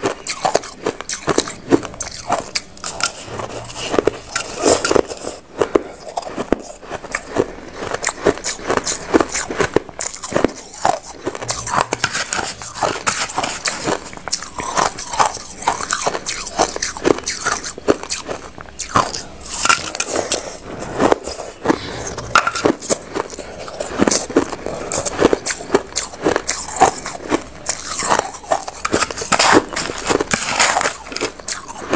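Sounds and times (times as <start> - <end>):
crushed ice being chewed: 0.0 - 31.9.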